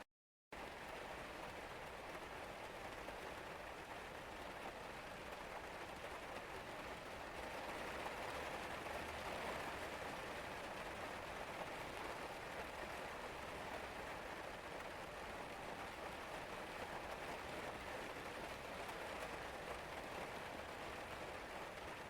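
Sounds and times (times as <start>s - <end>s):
steady rain falling: 0.6s - 22.0s.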